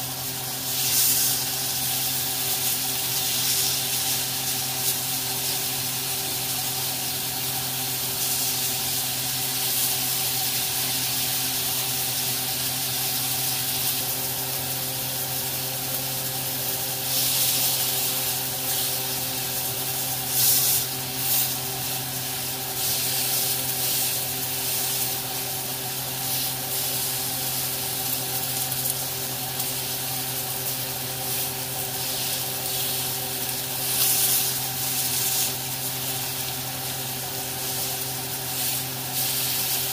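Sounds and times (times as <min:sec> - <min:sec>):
steaks sizzling in a grill pan: 0:00.0 - 0:39.9.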